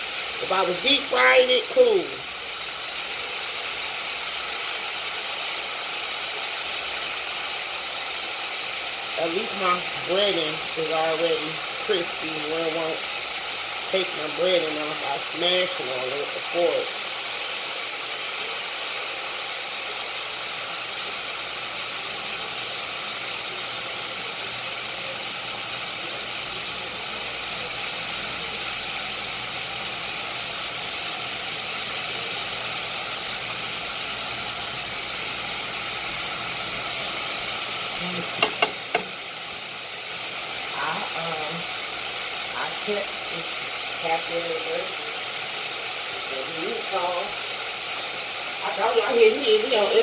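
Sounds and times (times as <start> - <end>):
chicken frying in oil: 0.0 - 50.0.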